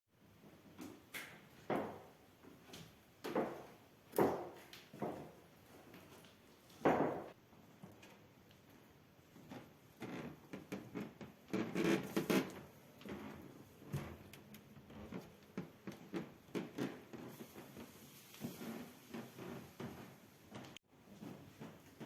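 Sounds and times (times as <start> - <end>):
floorboards creaking underfoot: 0.5 - 22.0.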